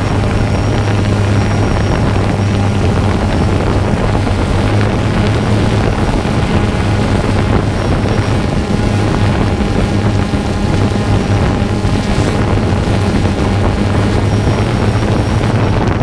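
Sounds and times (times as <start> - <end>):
drone propellers humming: 0.0 - 16.0
wind buffeting microphone: 0.0 - 16.0.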